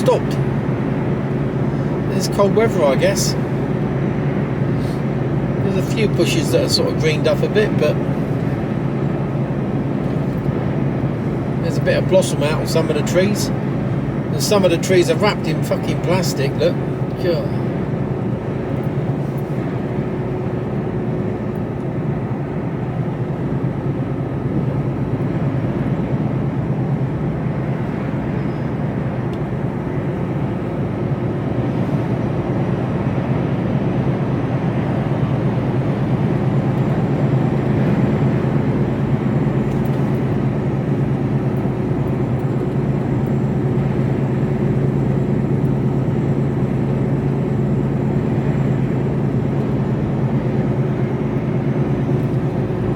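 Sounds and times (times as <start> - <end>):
lorry diesel engine hum: 0.0 - 52.9.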